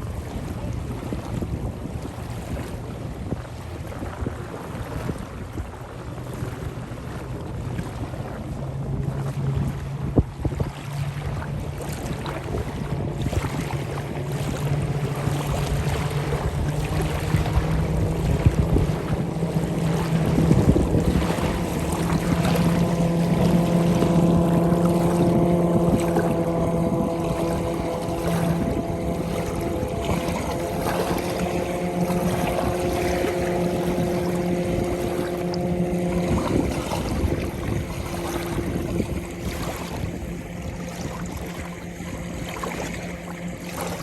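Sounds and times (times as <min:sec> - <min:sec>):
motorboat engine droning: 0:00.0 - 0:44.0
river waves: 0:00.0 - 0:44.0
wind on microphone: 0:00.0 - 0:44.0.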